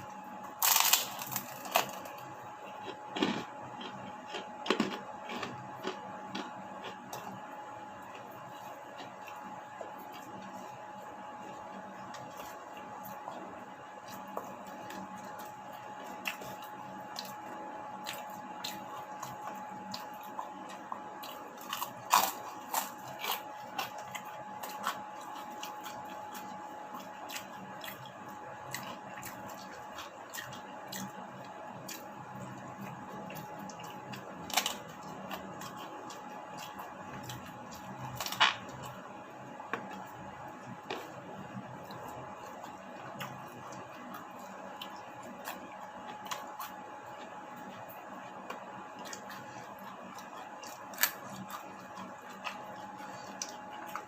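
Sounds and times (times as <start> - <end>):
chewing crunchy fried food: 0.0 - 54.0.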